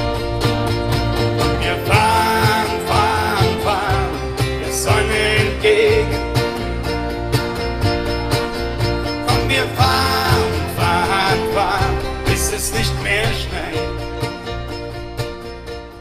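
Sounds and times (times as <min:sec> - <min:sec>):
live country band playing: 0:00.0 - 0:16.0.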